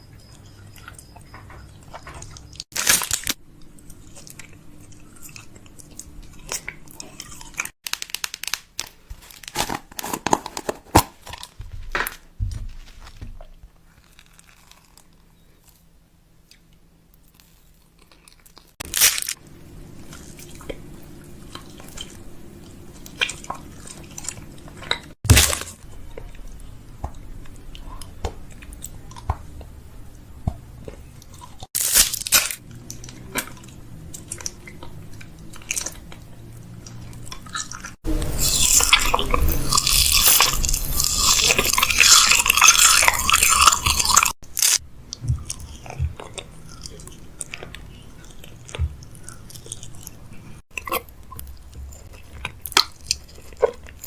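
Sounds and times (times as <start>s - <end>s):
food crunching: 0.2s - 54.0s.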